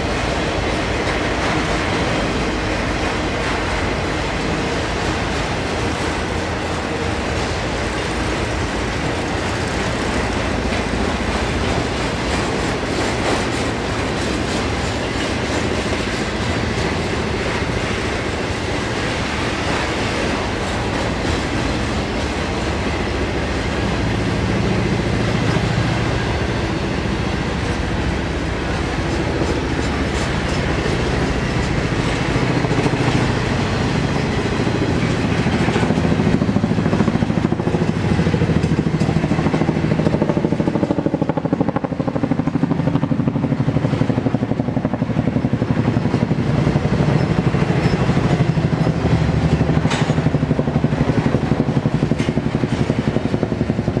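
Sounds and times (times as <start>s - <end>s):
freight train clattering over rails: 0.0s - 54.0s.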